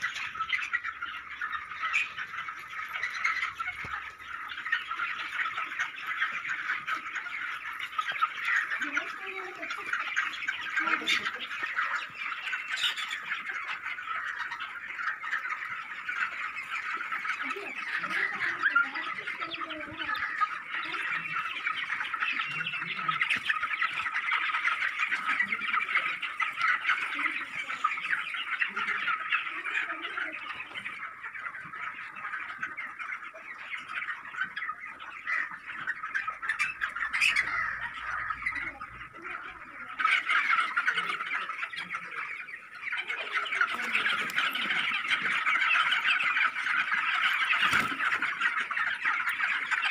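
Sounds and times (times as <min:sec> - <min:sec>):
chickens chirping: 0:00.0 - 0:49.9
sharp chicken calls: 0:00.0 - 0:49.9.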